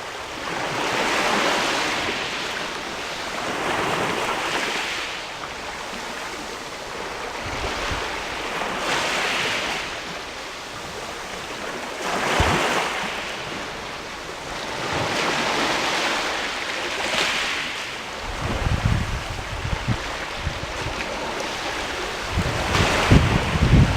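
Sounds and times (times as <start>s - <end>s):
waves washing against rocky shore: 0.1s - 23.9s.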